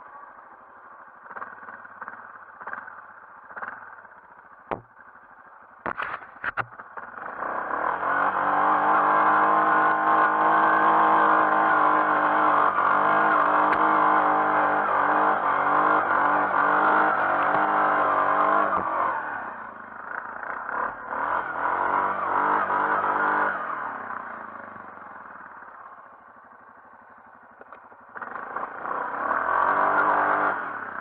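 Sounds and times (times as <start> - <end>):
atv engine under throttle: 0.0 - 31.0.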